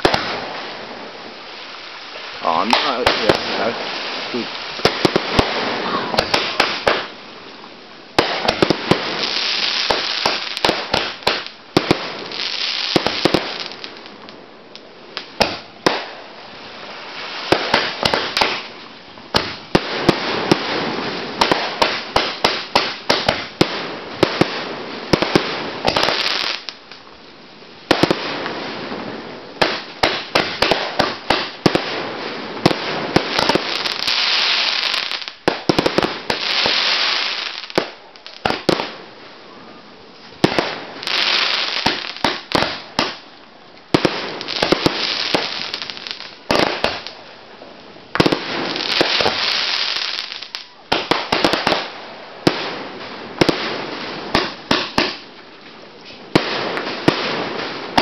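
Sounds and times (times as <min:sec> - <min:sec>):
fireworks launching and banging: 0:00.0 - 0:07.3, 0:08.1 - 0:27.0, 0:27.8 - 0:39.1, 0:40.4 - 0:43.3, 0:43.9 - 0:47.3, 0:48.1 - 0:55.4, 0:56.1 - 0:58.0
fireworks crackling: 0:00.0 - 0:58.0.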